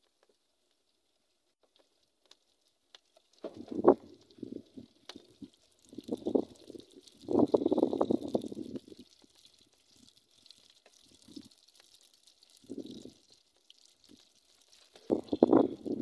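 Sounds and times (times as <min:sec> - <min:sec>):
dough bubbling in hot oil: 0:00.0 - 0:16.0
oil sizzling: 0:01.6 - 0:16.0.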